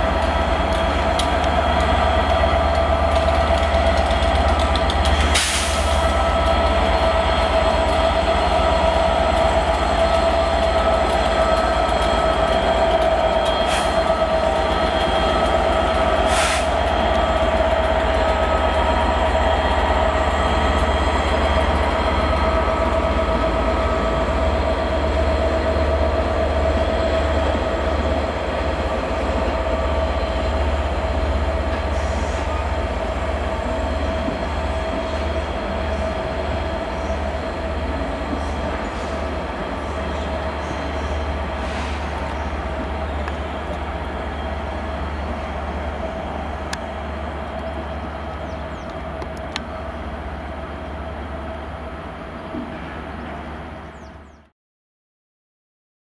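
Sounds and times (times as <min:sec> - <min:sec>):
diesel locomotive engine rumble: 0:00.0 - 0:54.5.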